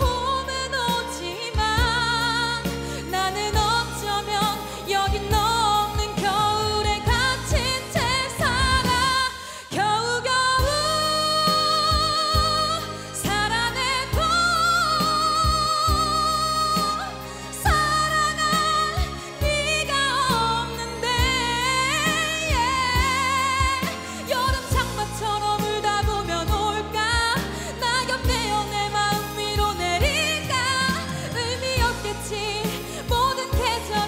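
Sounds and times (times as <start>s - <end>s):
backing track: 0.0s - 34.0s
woman singing pop ballad: 0.0s - 34.0s.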